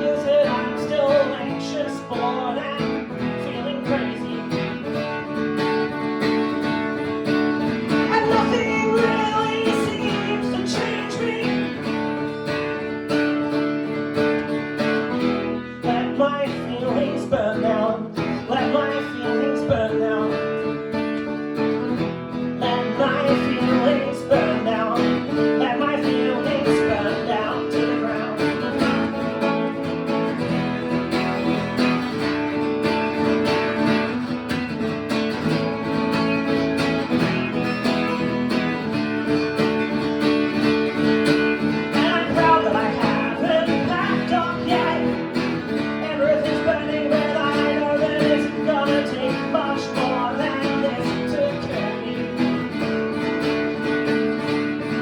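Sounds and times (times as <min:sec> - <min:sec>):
guitar: 0:00.0 - 0:55.0.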